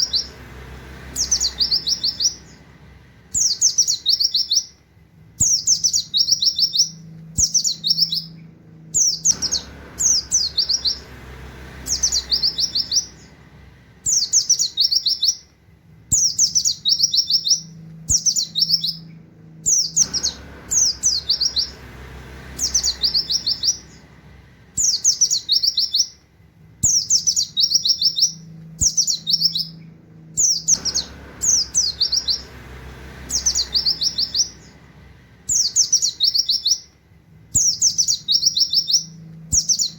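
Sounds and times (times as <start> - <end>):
white-eye bird singing: 0.0 - 4.8, 5.4 - 39.9.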